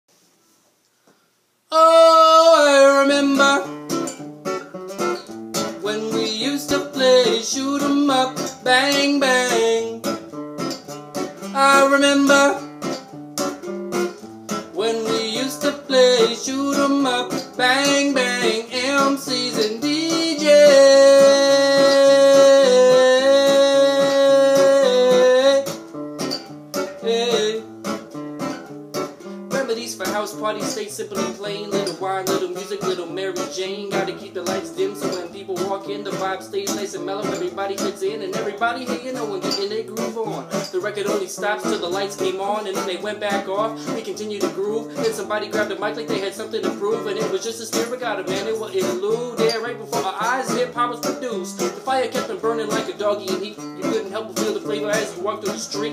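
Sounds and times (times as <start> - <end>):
man singing: 1.7 - 3.8, 5.6 - 10.2, 11.2 - 12.7, 14.5 - 25.8, 26.8 - 28.0, 29.5 - 55.9
acoustic guitar picked and strummed: 1.7 - 55.9.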